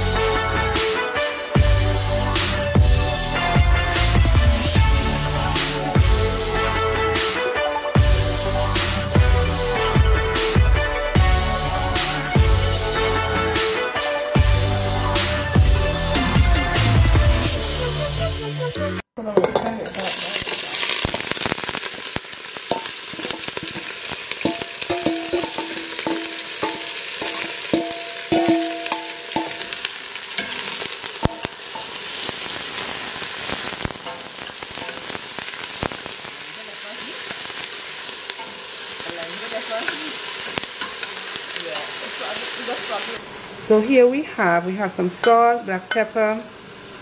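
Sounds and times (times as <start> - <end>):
vegetables sizzling in a pot: 0.0 - 18.1, 19.4 - 47.0.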